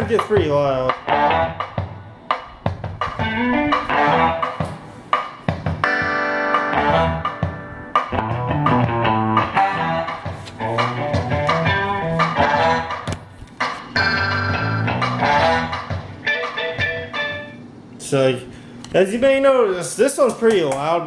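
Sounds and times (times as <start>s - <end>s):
guitar music through a speaker: 0.0s - 17.7s.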